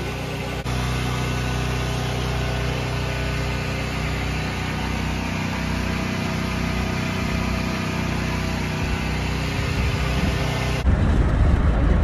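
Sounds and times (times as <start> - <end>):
portable generator engine running: 0.0 - 12.0.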